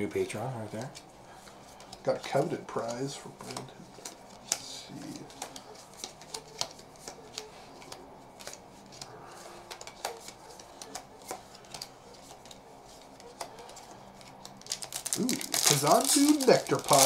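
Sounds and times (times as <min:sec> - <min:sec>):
cards slapping on cards: 0:00.7 - 0:17.0.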